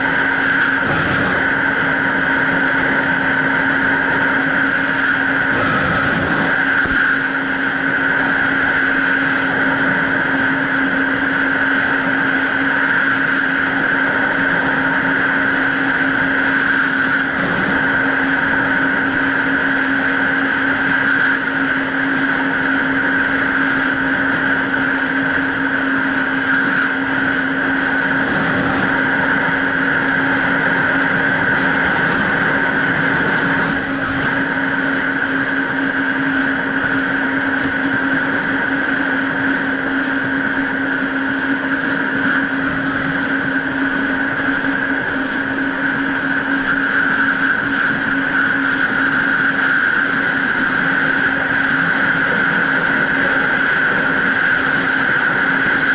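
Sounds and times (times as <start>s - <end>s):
jet ski engine running: 0.0s - 55.9s
water rushing: 0.0s - 55.9s.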